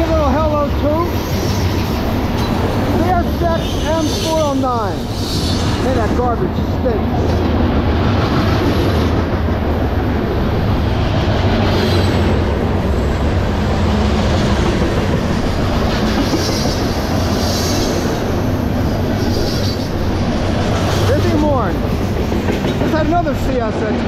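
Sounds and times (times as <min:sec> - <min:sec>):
freight train rolling past: 0:00.0 - 0:24.0
steel wheels rumbling on rails: 0:00.0 - 0:24.0.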